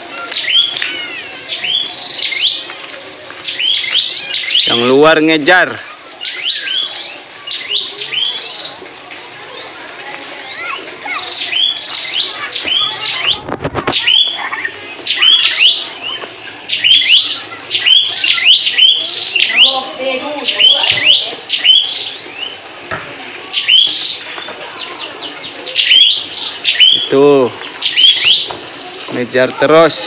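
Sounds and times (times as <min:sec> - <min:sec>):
bird chirping: 0:00.2 - 0:05.0, 0:06.2 - 0:08.7, 0:10.5 - 0:22.6, 0:23.5 - 0:28.6.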